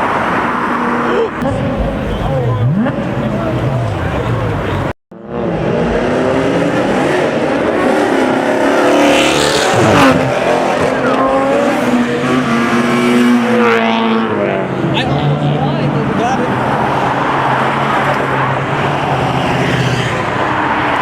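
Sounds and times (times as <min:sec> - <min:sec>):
car engine revving hard: 0:01.4 - 0:21.0.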